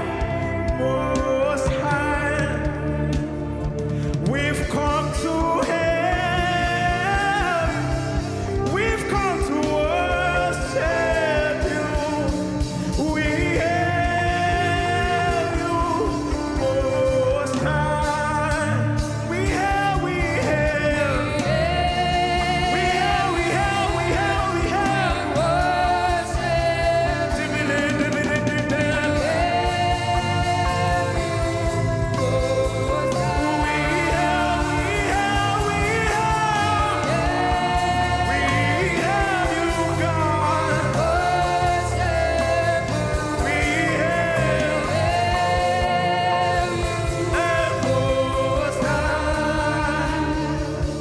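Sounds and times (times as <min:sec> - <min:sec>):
singer's voice: 0:00.0 - 0:51.0
steady drum pattern: 0:00.0 - 0:51.0
sustained keyboard chords: 0:00.0 - 0:51.0.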